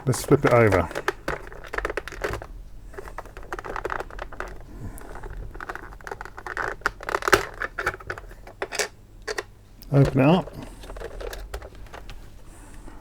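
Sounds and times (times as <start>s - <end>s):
plastic case clicking and scraping: 0.0s - 12.4s.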